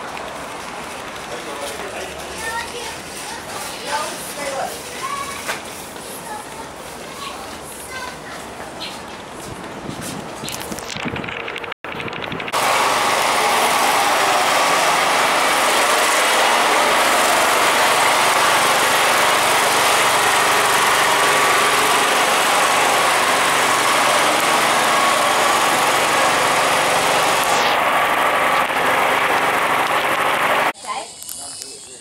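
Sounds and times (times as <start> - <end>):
road tunnel traffic din: 0.0 - 10.4, 12.1 - 31.7.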